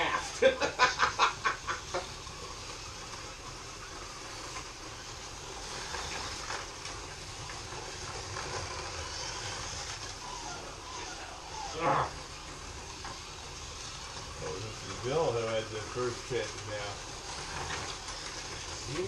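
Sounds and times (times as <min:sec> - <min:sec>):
slot car motors whirring: 0:00.0 - 0:19.0.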